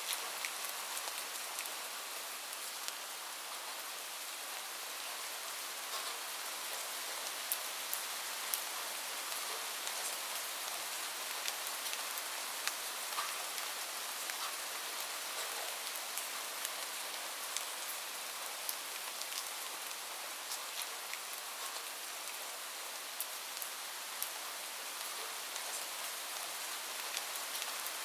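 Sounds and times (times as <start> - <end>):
light rain hissing: 0.0 - 28.0.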